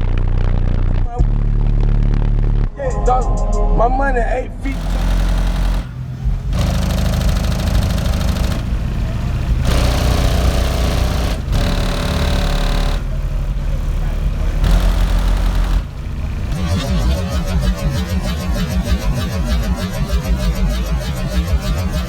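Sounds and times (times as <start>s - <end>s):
subwoofer bass notes: 0.0s - 22.0s.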